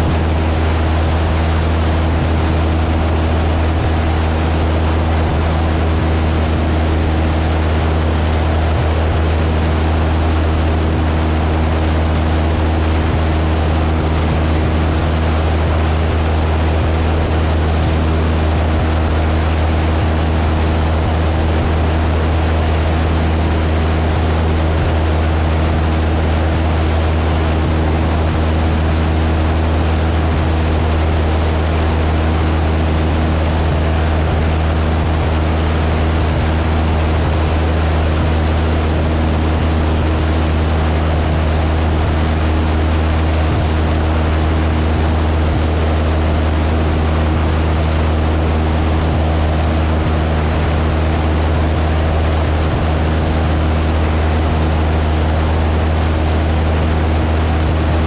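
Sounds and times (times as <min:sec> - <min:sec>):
aircraft engine and propeller droning: 0:00.0 - 0:58.0
rush of air noise: 0:00.0 - 0:58.0.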